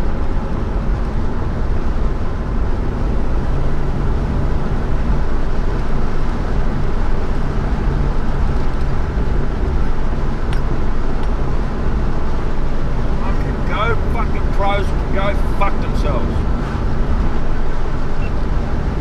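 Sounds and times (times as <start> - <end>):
car engine drone: 0.0 - 19.0
road and wind noise: 0.0 - 19.0.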